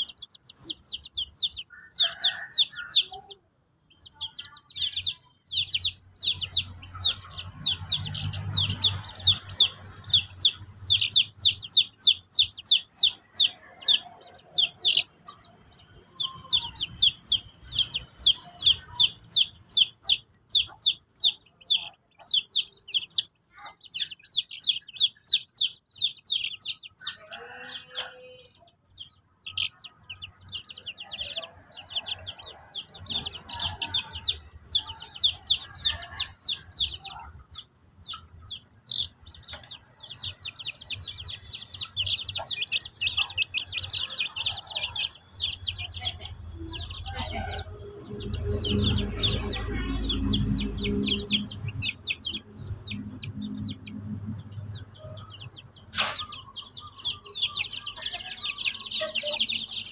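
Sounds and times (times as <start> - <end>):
chicken calls: 0.0 - 59.9
chicks peeping: 0.0 - 59.9.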